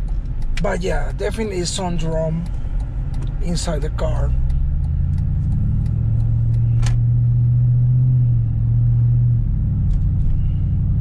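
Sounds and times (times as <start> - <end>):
exhaust drone inside car: 0.0 - 11.0.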